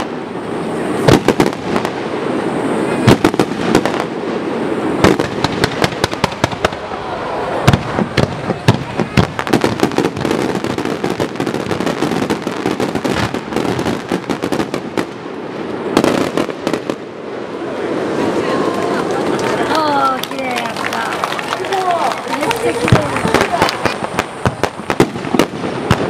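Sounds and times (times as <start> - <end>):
fireworks booms: 0.0 - 26.0
fireworks crackling and popping: 0.0 - 26.0.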